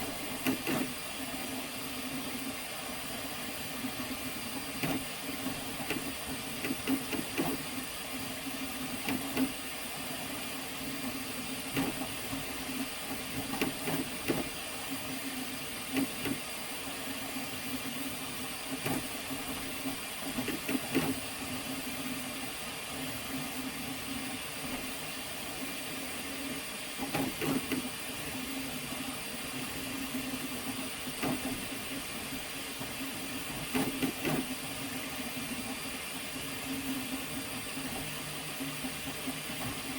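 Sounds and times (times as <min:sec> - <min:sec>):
cooling fans hissing: 0:00.0 - 0:39.9
print head whirring: 0:00.0 - 0:39.9.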